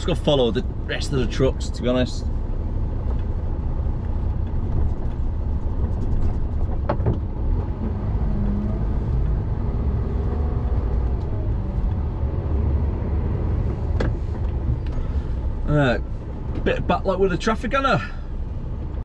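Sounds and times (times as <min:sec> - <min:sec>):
lorry diesel engine rumble: 0:00.0 - 0:19.0.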